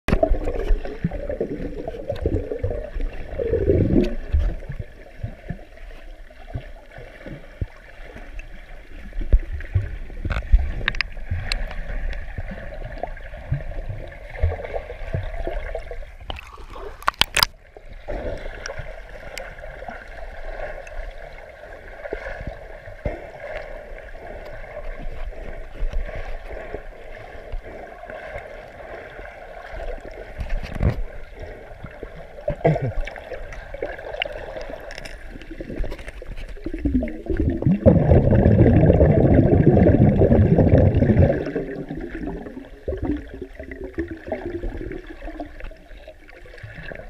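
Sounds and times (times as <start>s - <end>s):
water swirling and gurgling underwater: 0.0s - 47.0s.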